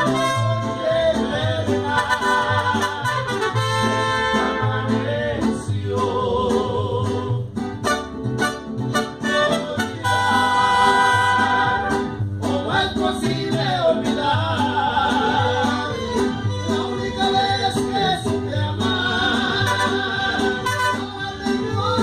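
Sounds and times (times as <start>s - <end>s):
mariachi band playing: 0.0s - 22.0s
plucked bass line: 0.0s - 22.0s.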